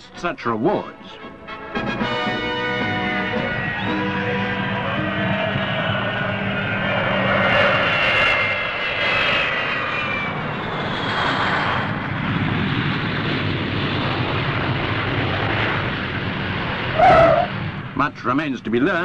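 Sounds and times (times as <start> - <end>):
jet engines roaring and whining: 0.2 - 19.0.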